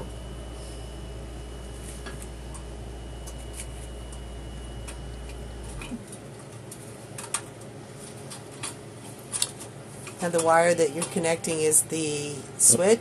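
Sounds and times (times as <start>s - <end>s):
low hum with high whine: 0.0s - 13.0s.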